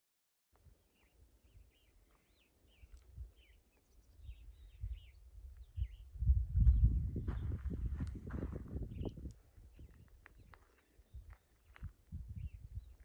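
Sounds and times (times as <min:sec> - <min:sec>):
songbird chirping: 0:00.6 - 0:13.0.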